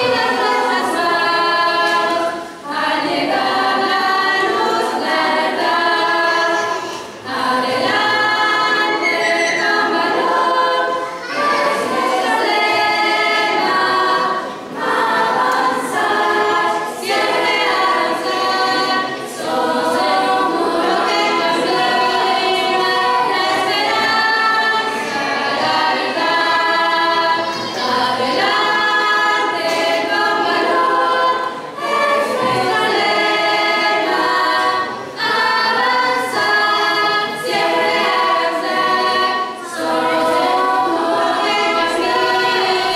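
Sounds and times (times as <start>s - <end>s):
girls' choir singing: 0.0s - 42.9s.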